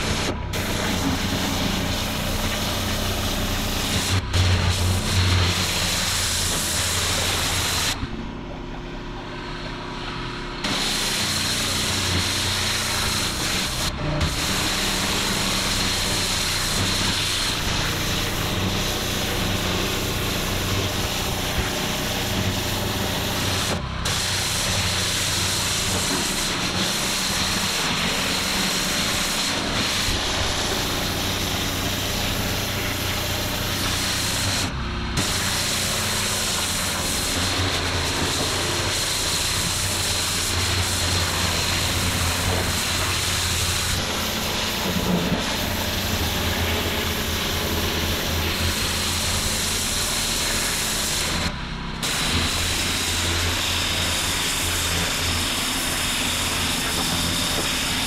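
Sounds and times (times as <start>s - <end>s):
pressure washer water spray hiss: 0.0s - 8.0s, 10.6s - 58.0s.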